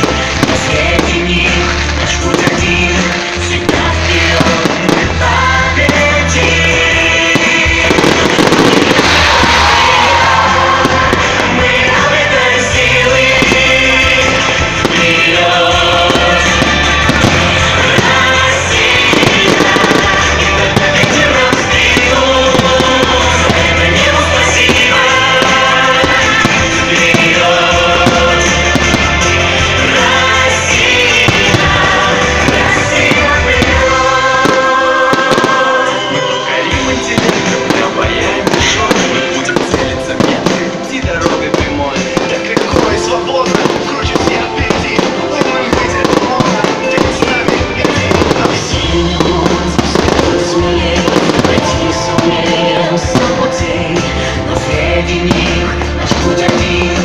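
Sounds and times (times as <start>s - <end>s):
fireworks banging: 0.0s - 57.0s
loud music: 0.0s - 57.0s.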